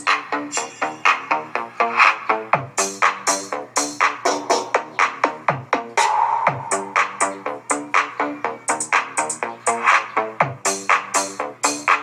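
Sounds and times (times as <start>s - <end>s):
electronic dance music through speaker: 0.0s - 12.0s.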